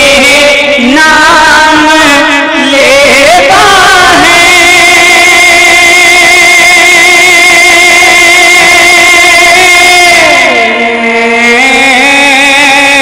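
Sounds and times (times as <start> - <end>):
man singing through loudspeakers: 0.0 - 13.0.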